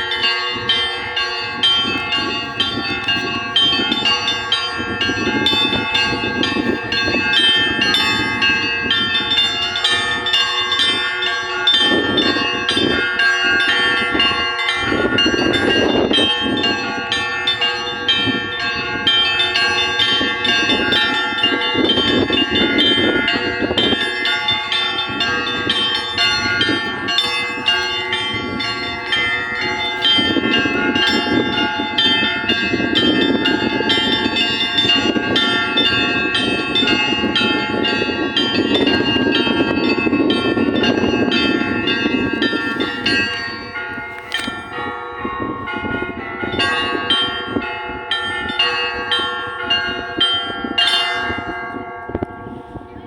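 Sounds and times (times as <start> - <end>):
church bells pealing: 0.0 - 53.0.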